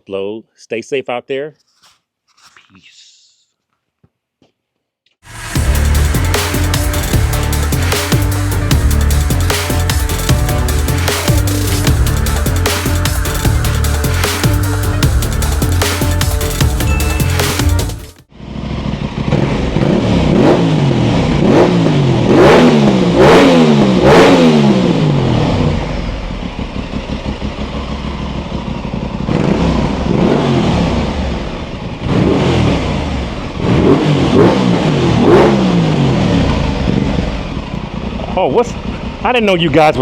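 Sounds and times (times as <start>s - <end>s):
motorcycle engine revving: 5.3s - 40.0s.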